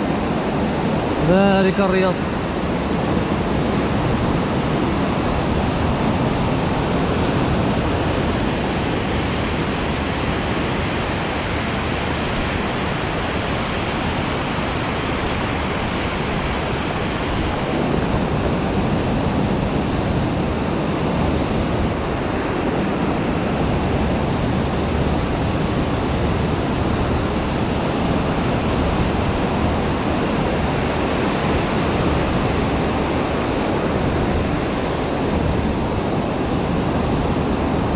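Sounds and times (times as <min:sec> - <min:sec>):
surf washing up a beach: 0:00.0 - 0:37.9
wind on microphone: 0:00.0 - 0:37.9.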